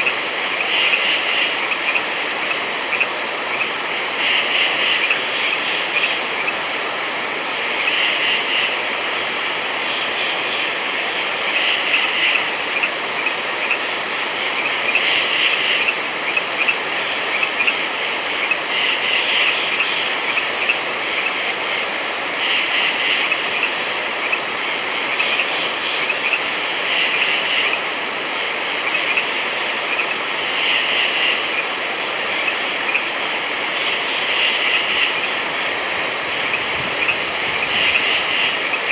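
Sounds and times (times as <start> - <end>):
frogs calling in trilled bursts: 0.0 - 38.9
steady background hiss: 0.0 - 38.9.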